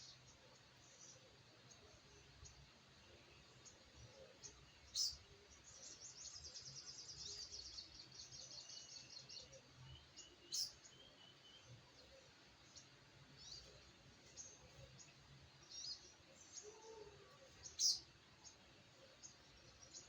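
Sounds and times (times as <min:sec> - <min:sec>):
soft bird chirps: 0:00.0 - 0:20.0.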